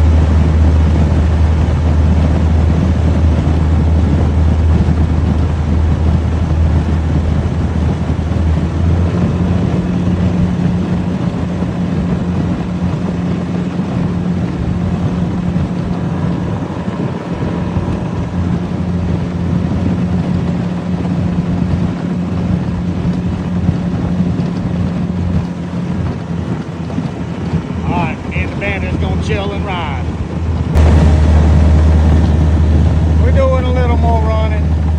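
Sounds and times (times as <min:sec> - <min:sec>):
boat motor running: 0:00.0 - 0:34.9
water rushing past: 0:00.0 - 0:34.9
wind rushing: 0:00.0 - 0:34.9.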